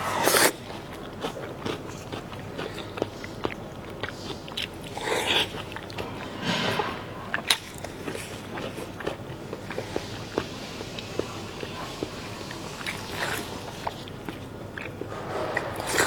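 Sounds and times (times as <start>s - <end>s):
person chewing: 0.0s - 16.0s.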